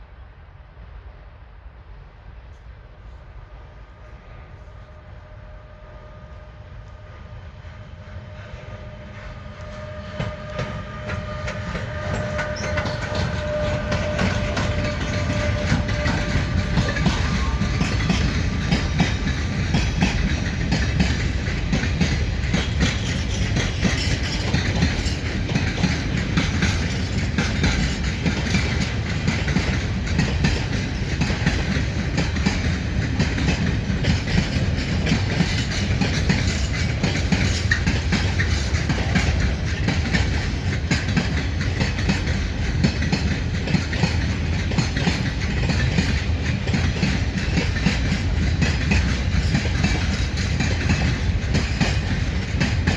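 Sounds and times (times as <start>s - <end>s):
freight train rumbling: 0.0s - 52.9s
wheels clattering over rail joints: 8.4s - 52.9s.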